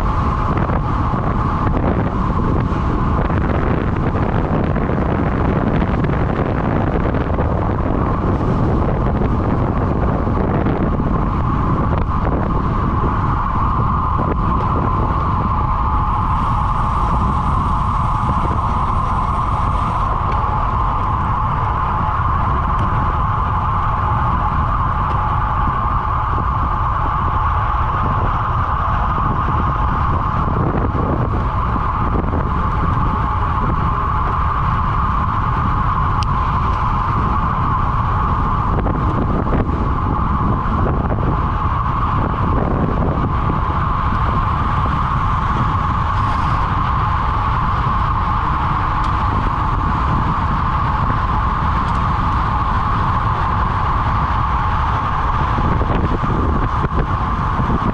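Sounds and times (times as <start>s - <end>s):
steady high hum: 0.0s - 57.9s
wind rushing over microphone: 0.0s - 57.9s.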